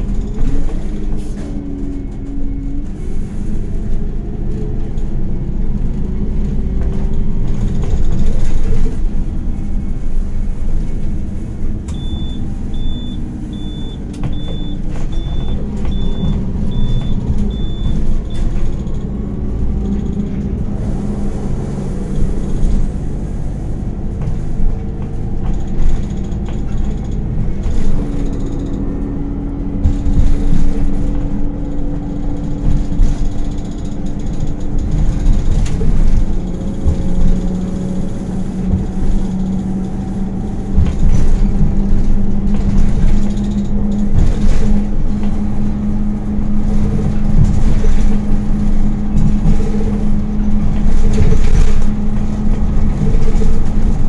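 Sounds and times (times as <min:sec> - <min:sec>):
bus engine running: 0:00.0 - 0:54.0
road rumble: 0:00.0 - 0:54.0.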